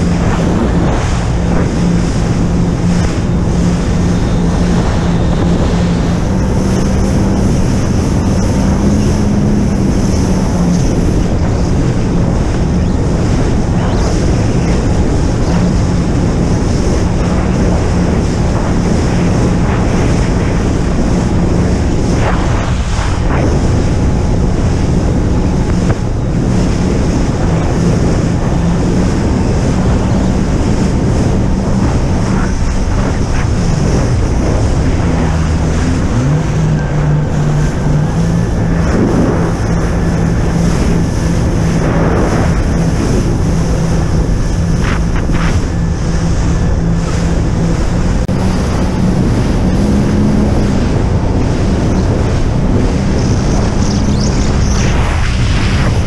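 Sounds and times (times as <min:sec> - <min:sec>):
jet ski engine running: 0:00.0 - 0:56.0
water rushing past hull: 0:00.0 - 0:56.0
wind buffeting microphone: 0:00.0 - 0:56.0.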